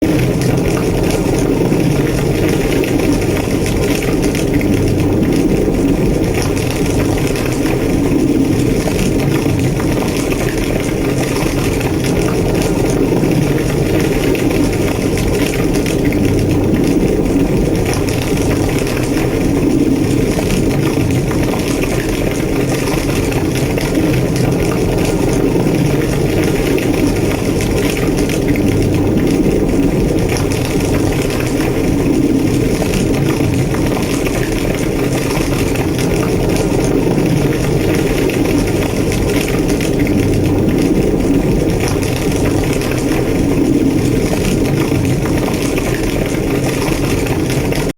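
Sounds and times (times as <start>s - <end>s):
large fire roaring and crackling: 0.0s - 47.9s.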